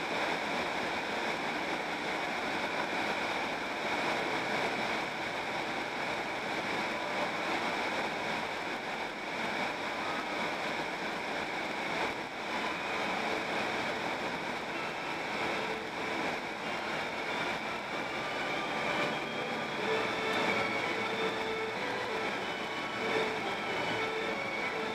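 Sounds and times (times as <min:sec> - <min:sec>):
road and tyre noise in car: 0:00.0 - 0:24.9.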